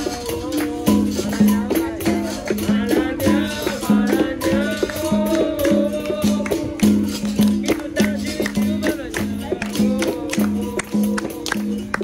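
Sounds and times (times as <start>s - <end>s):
person singing: 0.0s - 12.0s
rattle and percussion strokes: 0.0s - 12.0s.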